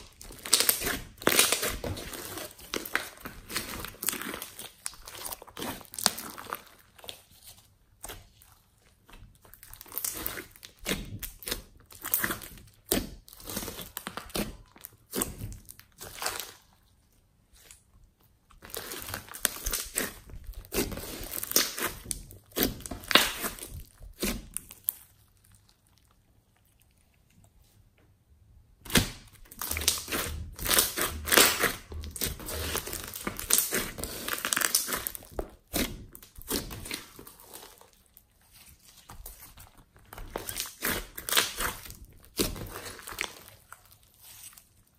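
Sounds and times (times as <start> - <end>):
slime squelching and popping: 0.0 - 16.9, 17.5 - 27.6, 28.8 - 44.9.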